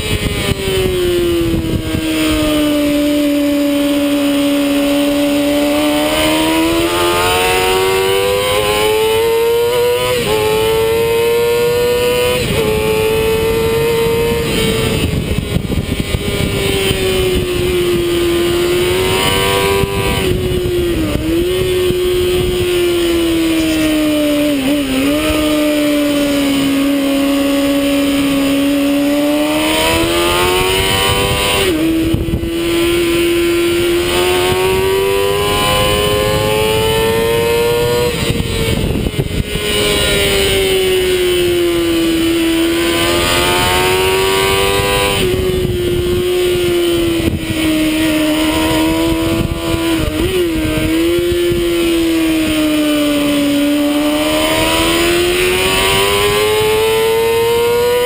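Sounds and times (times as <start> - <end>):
motorcycle engine revving: 0.0 - 58.0
steady rushing noise: 0.0 - 58.0.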